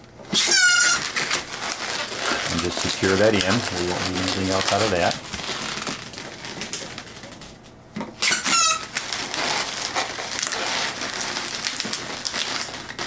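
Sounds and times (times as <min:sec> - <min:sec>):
balloons squeaking and rubbing: 0:00.3 - 0:06.5, 0:08.2 - 0:13.0.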